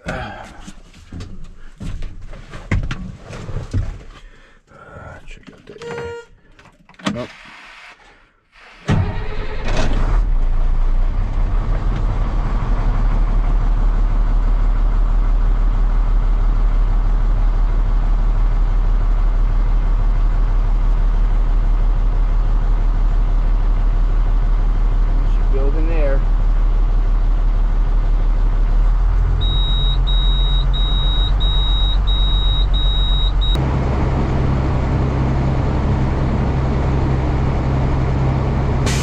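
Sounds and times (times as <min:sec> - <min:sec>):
diesel engine starting and idling: 0:07.2 - 0:39.0.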